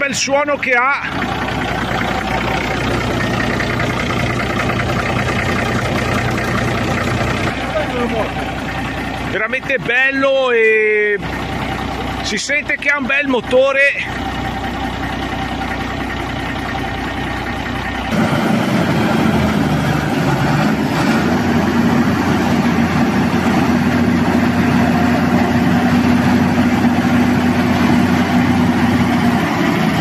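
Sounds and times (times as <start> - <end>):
truck diesel engine idling: 0.0 - 30.0.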